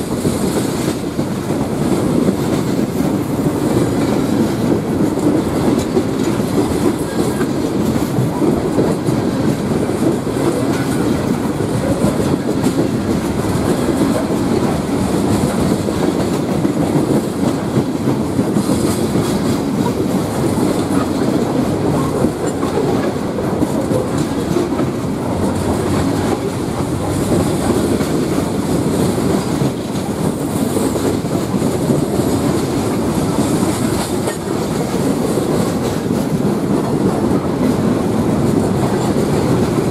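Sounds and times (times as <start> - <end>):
freight train rolling past: 0.0 - 39.9
wheels clickety-clack on rail: 0.0 - 39.9.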